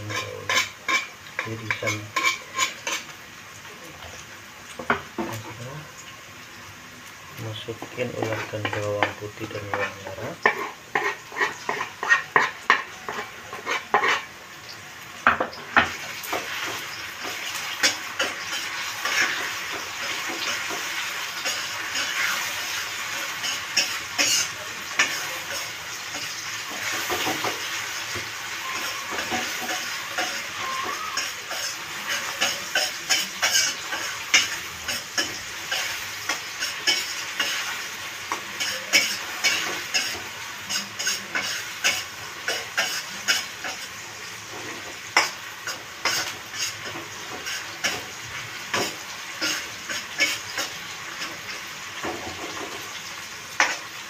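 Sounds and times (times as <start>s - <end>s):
spatula scraping and knocking pan: 0.0s - 3.1s, 7.8s - 14.3s, 15.2s - 52.9s
paste sizzling in oil: 0.0s - 54.0s.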